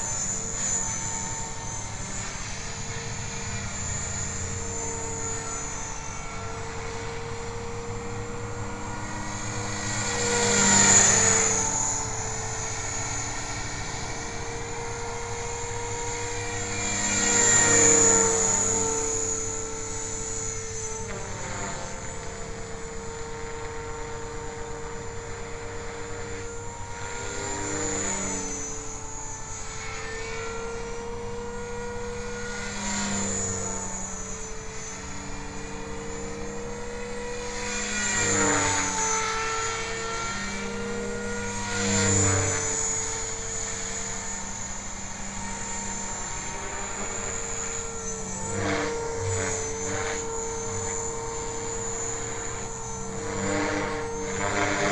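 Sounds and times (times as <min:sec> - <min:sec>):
rc helicopter motor whine: 0:00.0 - 0:54.9.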